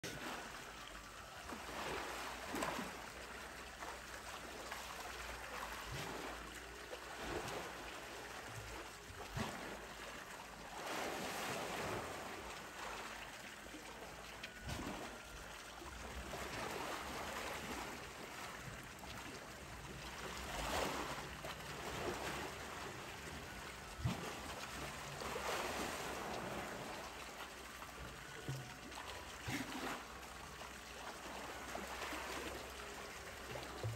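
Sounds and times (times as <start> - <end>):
water sloshing and splashing: 0.0 - 33.9.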